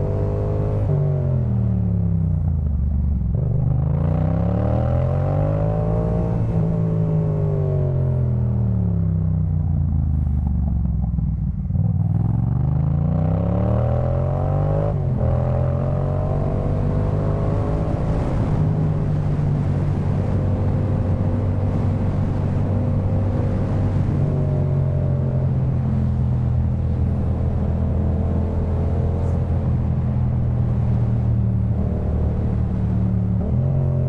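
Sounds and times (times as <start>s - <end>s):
motorcycle engine revving: 0.0s - 8.2s, 9.7s - 34.0s.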